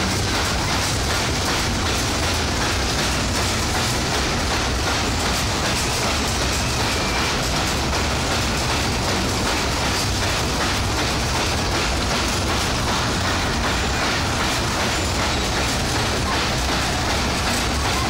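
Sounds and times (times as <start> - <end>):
fairground ride rumble and clatter: 0.0 - 18.0.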